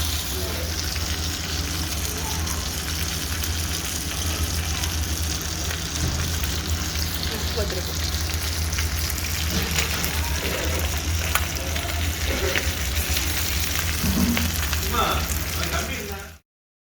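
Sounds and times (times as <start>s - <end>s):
fish sizzling in hot oil: 0.0s - 16.4s
oil crackling and popping: 0.0s - 16.4s.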